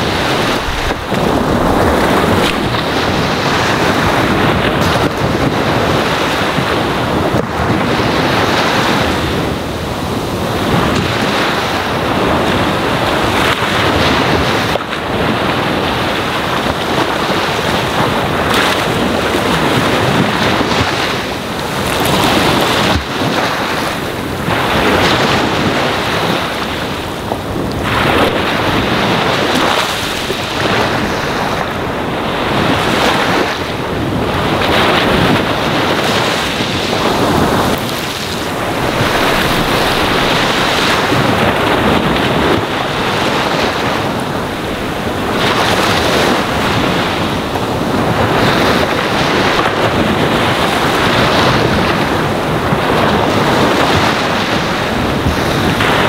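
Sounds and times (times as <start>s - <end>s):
surf breaking on shore: 0.0s - 56.0s.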